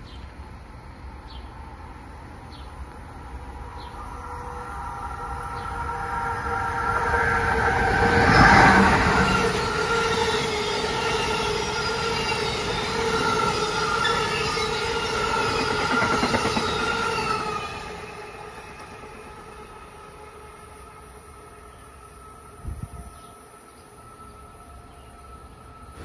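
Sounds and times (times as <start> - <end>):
train wheels on rails: 1.2 - 26.0.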